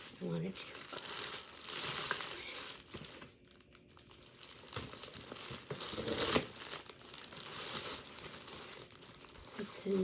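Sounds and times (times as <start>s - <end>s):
packaging crinkling by hand: 0.0s - 10.0s.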